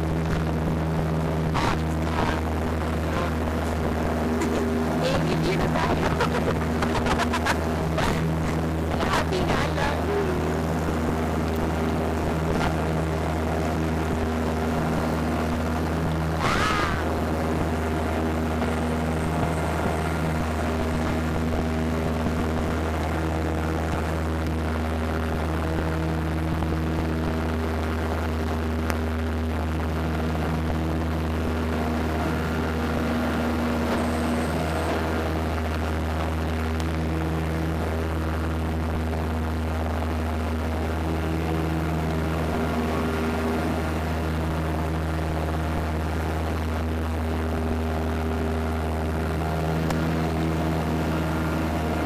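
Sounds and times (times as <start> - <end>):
propeller engines droning in cabin: 0.0 - 52.0.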